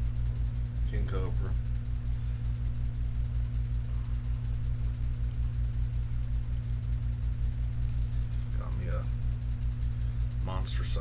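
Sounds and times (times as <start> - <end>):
low machine hum with throb: 0.0 - 11.0.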